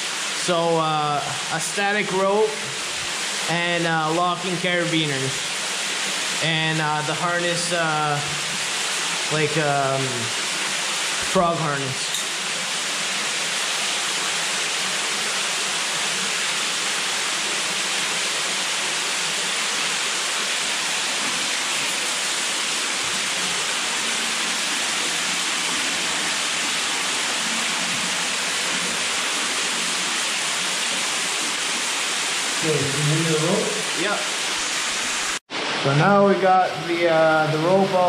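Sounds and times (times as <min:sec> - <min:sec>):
water rushing in a cave: 0:00.0 - 0:38.0.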